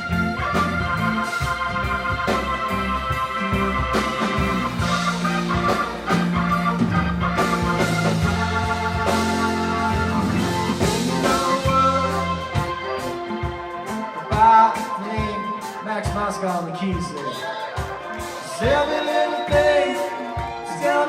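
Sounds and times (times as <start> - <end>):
bass guitar: 0.0 - 21.0
drums: 0.0 - 21.0
keyboard solo: 0.0 - 21.0.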